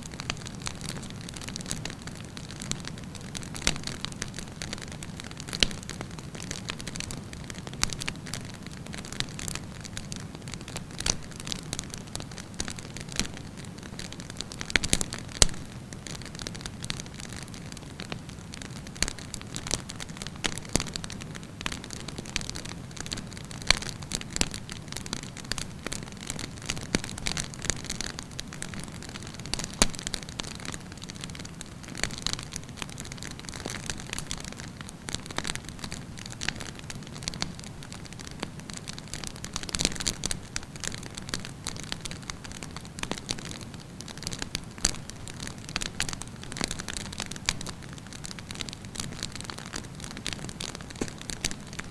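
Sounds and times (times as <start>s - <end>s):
campfire crackles and pops: 0.0s - 51.9s.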